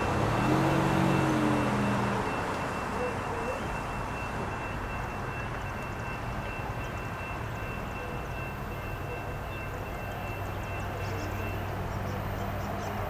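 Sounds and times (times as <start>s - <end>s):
distant locomotive rumble: 0.0s - 13.0s.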